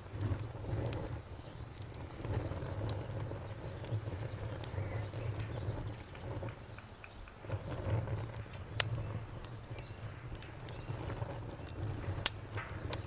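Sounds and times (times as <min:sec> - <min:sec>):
campfire crackling and popping: 0:00.0 - 0:13.0
crickets chirping: 0:00.0 - 0:13.0.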